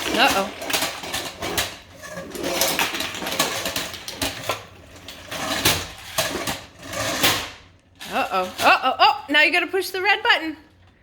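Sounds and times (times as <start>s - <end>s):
plastic toy pieces clattering: 0.0s - 8.8s.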